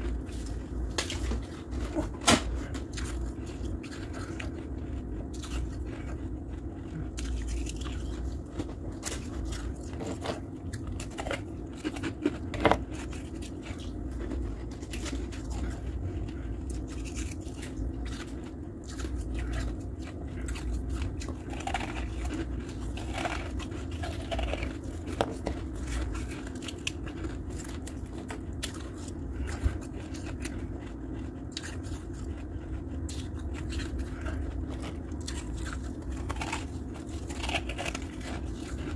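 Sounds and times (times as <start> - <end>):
chewing crunchy ice: 0.0 - 38.9
steady low hum: 0.0 - 38.9.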